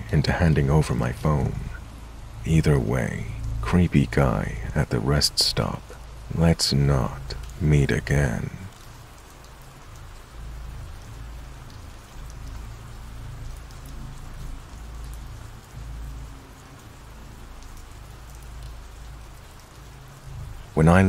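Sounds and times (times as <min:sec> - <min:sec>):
raindrop ticks: 0:00.0 - 0:21.0
steady rain hiss: 0:00.0 - 0:21.0.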